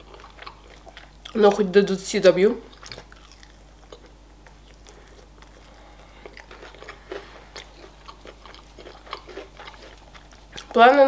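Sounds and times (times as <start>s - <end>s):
chewing crispy chicken: 0.0s - 1.7s, 2.7s - 10.9s.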